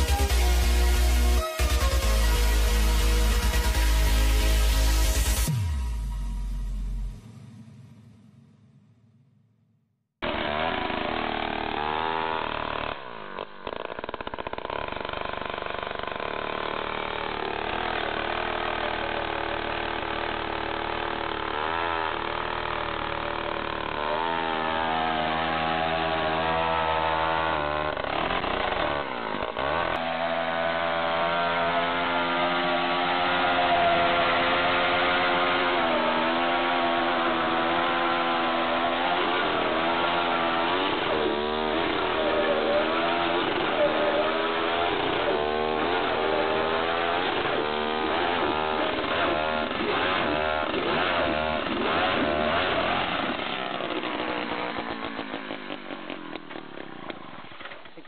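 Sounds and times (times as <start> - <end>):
ice auger engine drilling: 10.2 - 58.0.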